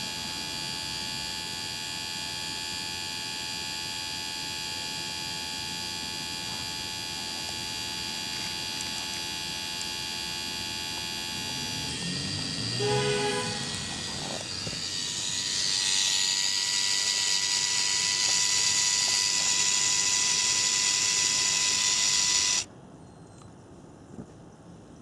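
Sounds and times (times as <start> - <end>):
electrical hum and whine: 0.0 - 25.0.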